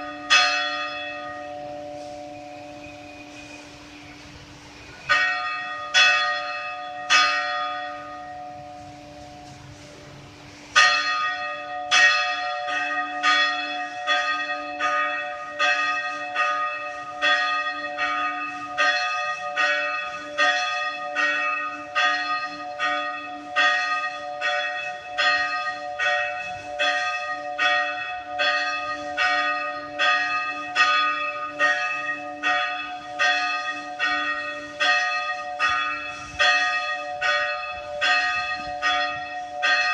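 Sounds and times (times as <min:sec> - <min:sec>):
church bell tolling: 0:00.0 - 0:04.3, 0:05.1 - 0:39.9.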